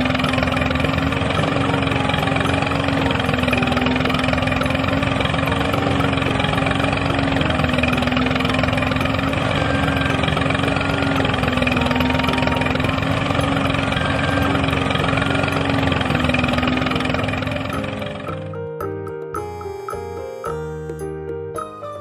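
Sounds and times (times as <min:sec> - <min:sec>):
harrow dragging through sand: 0:00.0 - 0:18.2
small electric motor humming: 0:00.0 - 0:18.5.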